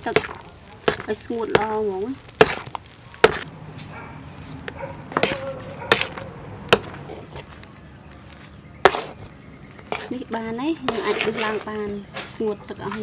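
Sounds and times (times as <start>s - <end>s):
spoon stirring thick paste: 0.0s - 3.5s, 4.6s - 13.0s.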